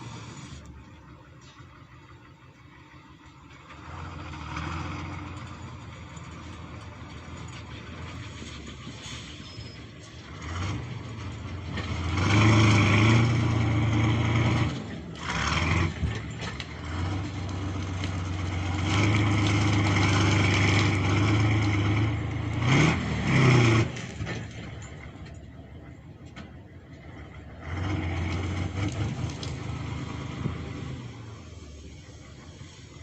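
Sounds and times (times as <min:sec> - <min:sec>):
tractor diesel engine revving: 0:00.0 - 0:33.0.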